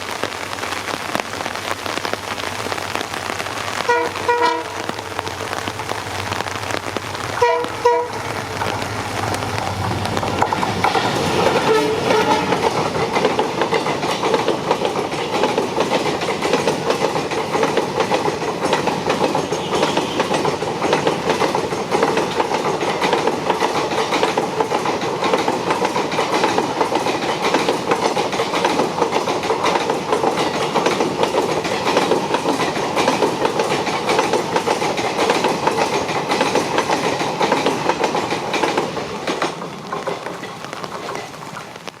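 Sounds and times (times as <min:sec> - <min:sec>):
train rushing past: 0:00.0 - 0:42.0
wheels clattering over rail joints: 0:06.8 - 0:42.0.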